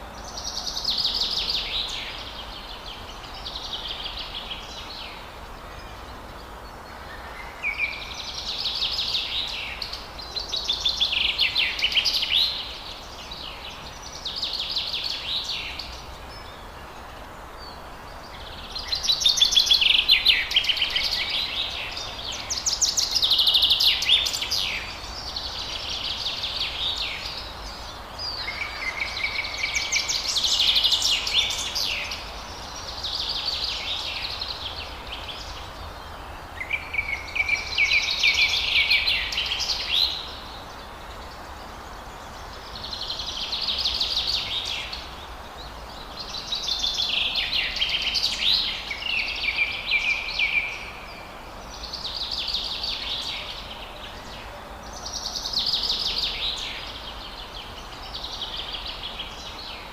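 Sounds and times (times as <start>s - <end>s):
forest birds singing: 0.0s - 59.9s
steady background hiss: 0.0s - 59.9s.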